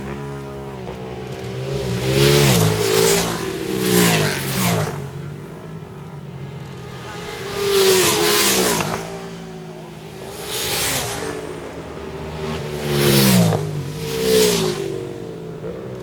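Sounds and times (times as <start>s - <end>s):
racing motorcycles passing: 0.0s - 16.0s.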